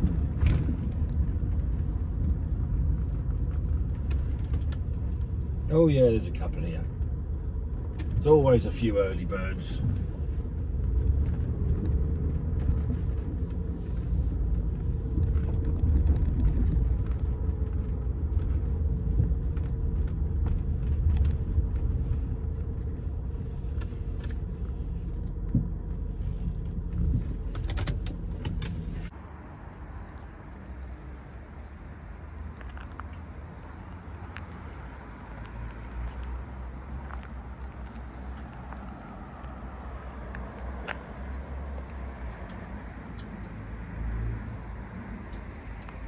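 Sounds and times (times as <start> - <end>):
car engine low rumble: 0.0 - 46.0.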